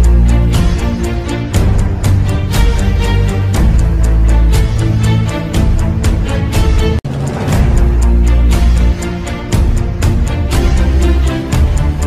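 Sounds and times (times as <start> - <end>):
background music with steady beat: 0.0 - 12.0
deep held bass notes: 0.0 - 12.0.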